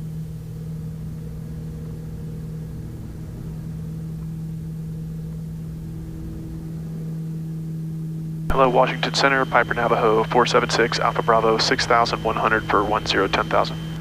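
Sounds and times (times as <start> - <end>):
aircraft cabin engine drone: 0.0 - 14.0.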